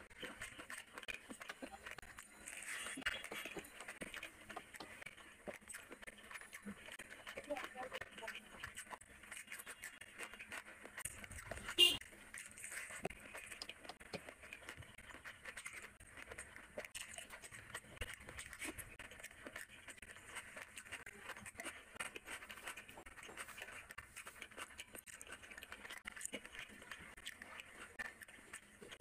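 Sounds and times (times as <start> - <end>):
person chewing wetly: 0.0 - 29.0.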